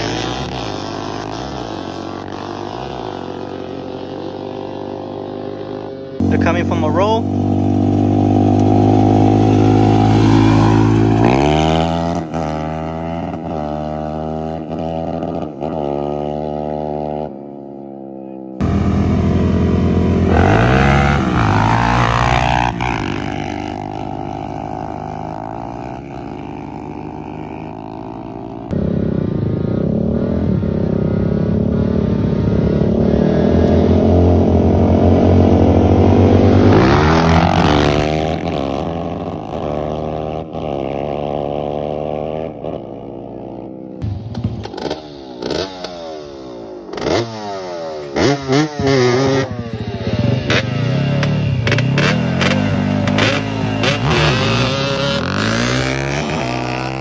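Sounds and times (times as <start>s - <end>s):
quad engines accelerating: 0.0s - 57.0s.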